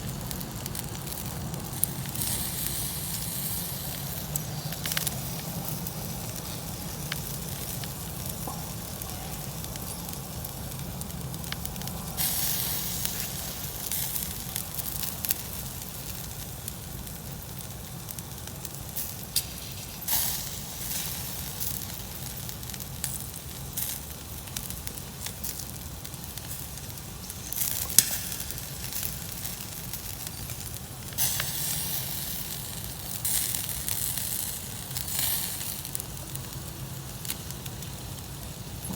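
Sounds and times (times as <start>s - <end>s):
campfire crackling and popping: 0.0s - 38.9s
fire hissing: 0.0s - 38.9s.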